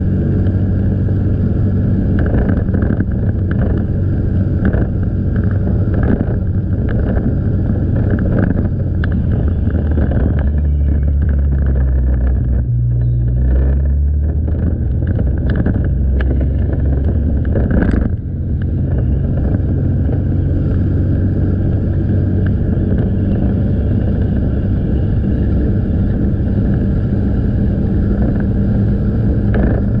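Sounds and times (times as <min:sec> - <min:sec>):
motorcycle engine running: 0:00.0 - 0:30.0
road noise: 0:00.0 - 0:30.0.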